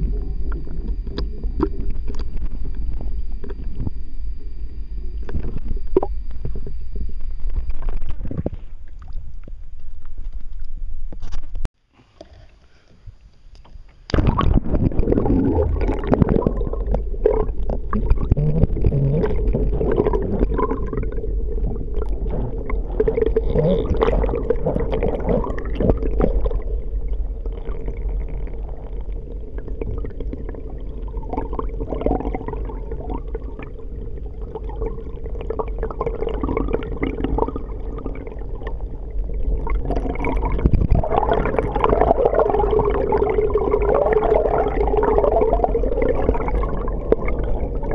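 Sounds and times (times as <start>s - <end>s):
muffled water gurgling underwater: 0.0s - 11.4s, 14.1s - 47.9s.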